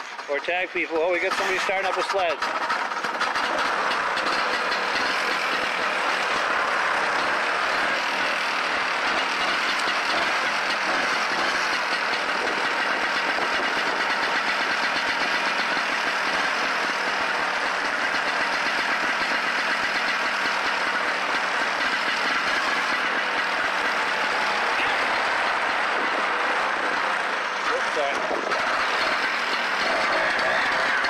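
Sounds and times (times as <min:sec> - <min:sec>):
snowmobile engine idling: 0:00.0 - 0:31.0.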